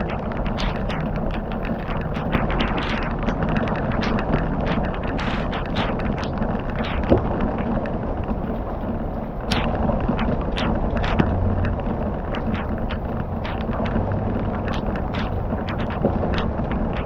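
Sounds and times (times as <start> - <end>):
campfire crackling and popping: 0.0 - 17.0
steady rushing noise: 0.0 - 17.0.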